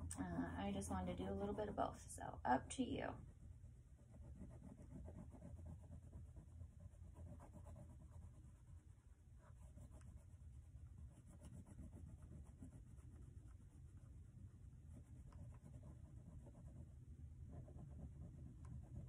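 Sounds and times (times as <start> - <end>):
crayon rubbing on paper: 3.2 - 19.0.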